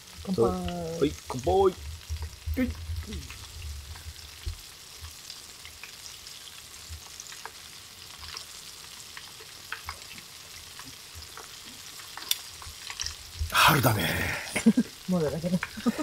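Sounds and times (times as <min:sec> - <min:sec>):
skewers deep-frying in hot oil: 0:00.0 - 0:16.0.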